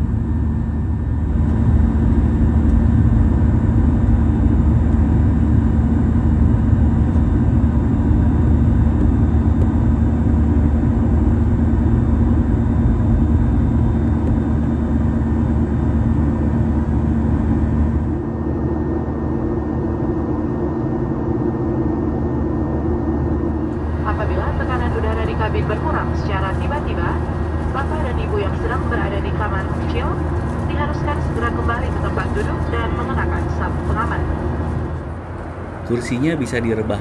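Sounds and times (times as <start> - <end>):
jet engines rushing: 0.0 - 37.0
low steady hum: 0.0 - 37.0.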